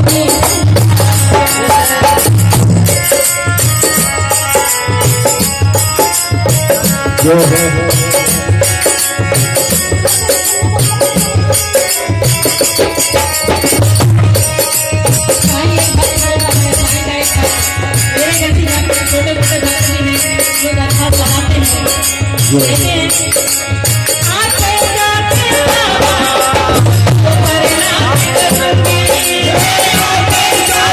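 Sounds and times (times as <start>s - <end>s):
drum beat: 0.0s - 30.9s.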